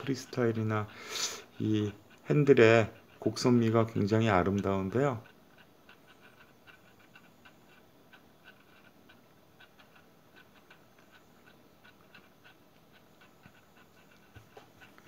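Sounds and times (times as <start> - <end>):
rotating turntable ticking: 0.0 - 15.0.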